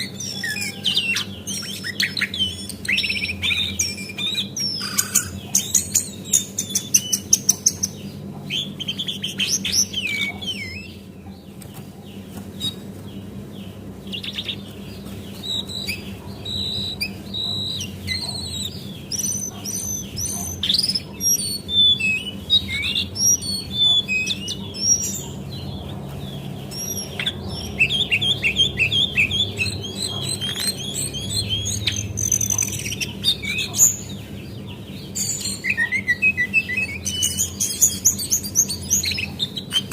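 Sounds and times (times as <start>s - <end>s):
bird chirps and trills: 0.0s - 39.9s
steady low hum: 0.0s - 39.9s.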